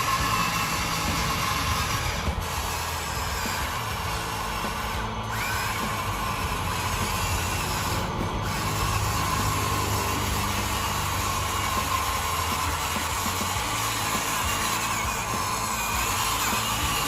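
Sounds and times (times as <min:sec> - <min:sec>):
background music: 0:00.0 - 0:17.0
small electric motor whirring: 0:00.0 - 0:17.0.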